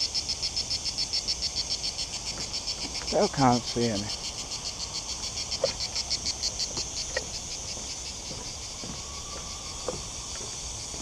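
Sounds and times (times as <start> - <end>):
insects chorus shrilling: 0.0 - 11.0.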